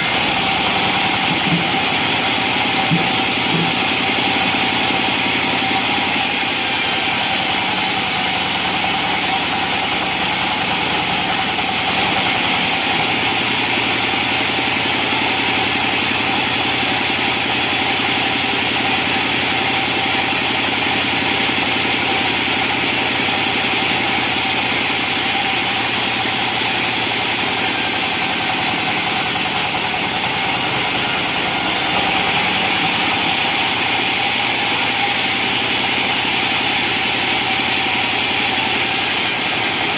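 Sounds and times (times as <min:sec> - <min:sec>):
sawmill machinery droning: 0:00.0 - 0:39.9
steady machine whine: 0:00.0 - 0:39.9.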